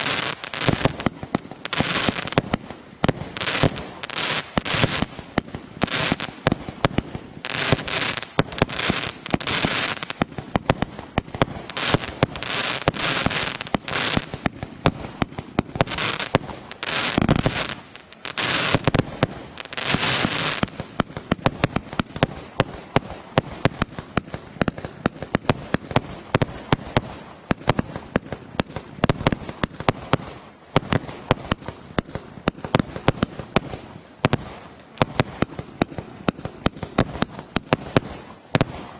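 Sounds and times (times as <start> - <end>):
firework barrage: 0.0 - 38.9.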